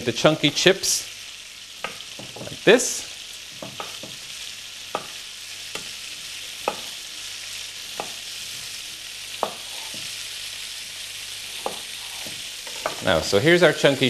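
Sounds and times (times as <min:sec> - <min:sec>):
butter sizzling in a frying pan: 0:00.0 - 0:14.0.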